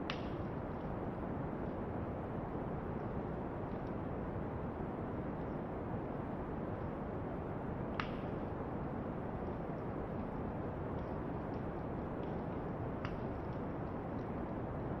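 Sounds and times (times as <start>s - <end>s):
brown noise hiss: 0.0s - 15.0s
campfire crackles: 0.0s - 15.0s.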